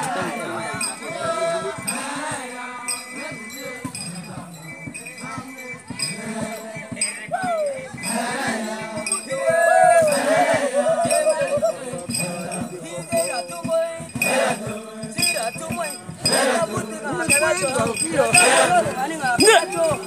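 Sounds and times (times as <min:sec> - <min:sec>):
men chanting and calling out: 0:00.0 - 0:20.0.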